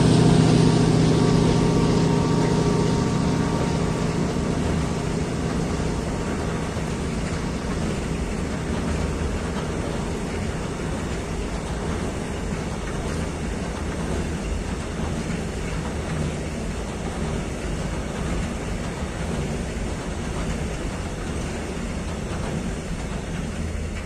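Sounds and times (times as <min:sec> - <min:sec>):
freight train wheels on rails: 0:00.0 - 0:24.0.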